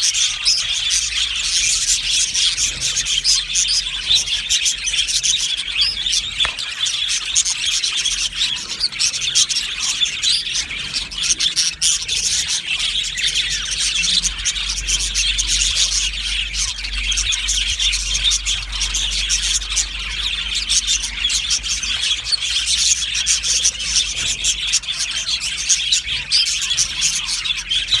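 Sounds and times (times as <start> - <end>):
budgerigars chattering and chirping: 0.0 - 28.0.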